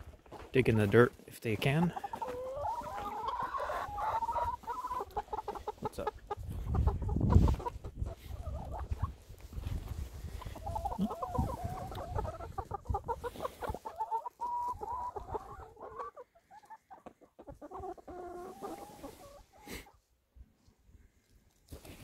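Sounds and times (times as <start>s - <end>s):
hens clucking softly: 1.6s - 21.6s.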